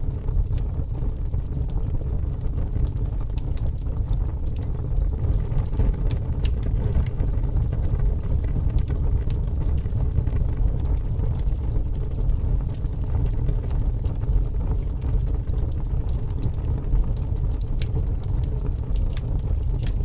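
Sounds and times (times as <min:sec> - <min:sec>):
fire crackling and popping: 0:00.0 - 0:20.0
fire roaring: 0:00.0 - 0:20.0.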